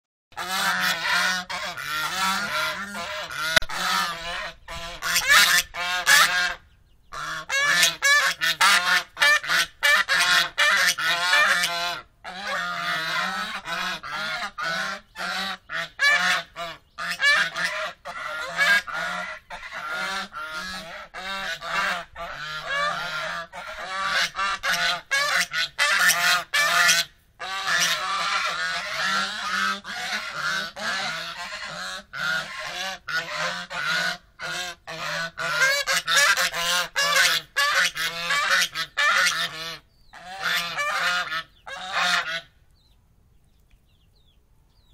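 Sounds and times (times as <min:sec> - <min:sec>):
geese honking: 0:00.4 - 0:42.5.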